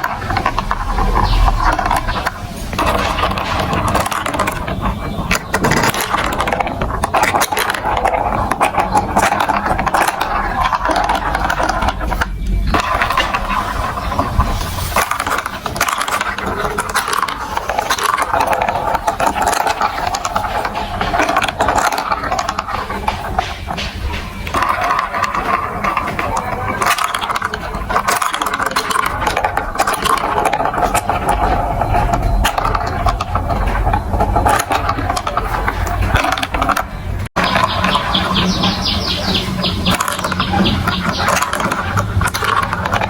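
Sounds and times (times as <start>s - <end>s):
marbles rolling on plastic track: 0.0s - 43.0s.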